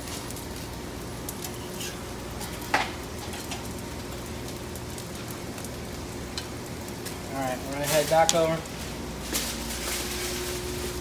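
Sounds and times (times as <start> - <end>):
food sizzling on a griddle: 0.0 - 11.0
steady low hum: 0.0 - 11.0.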